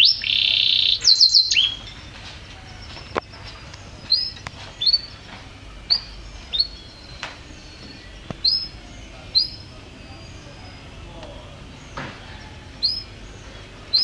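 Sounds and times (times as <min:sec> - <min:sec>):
canary chirping: 0:00.0 - 0:11.1, 0:11.7 - 0:14.0.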